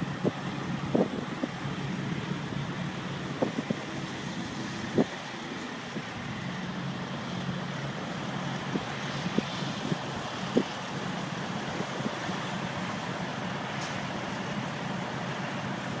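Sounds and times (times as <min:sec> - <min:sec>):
blizzard wind blowing: 0:00.0 - 0:16.0
idling truck engines: 0:00.0 - 0:16.0.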